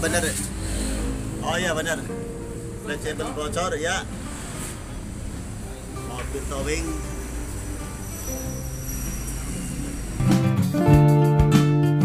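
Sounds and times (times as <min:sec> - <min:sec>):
guitar chords music: 0:01.0 - 0:12.0.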